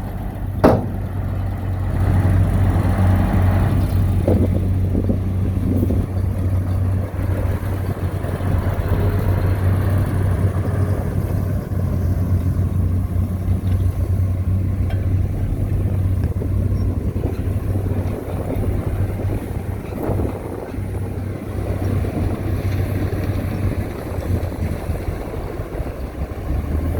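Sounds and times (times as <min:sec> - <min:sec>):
heavy diesel engine humming: 0:00.0 - 0:26.9.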